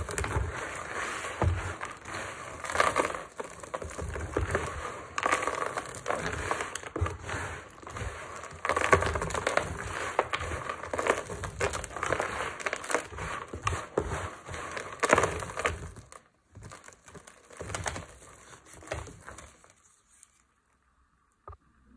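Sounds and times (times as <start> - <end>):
dry herbs and soap crunching: 0.0 - 20.6.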